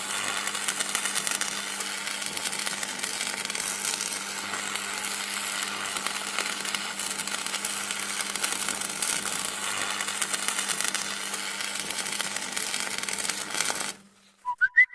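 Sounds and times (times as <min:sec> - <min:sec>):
electric arcing buzz: 0:00.0 - 0:14.1.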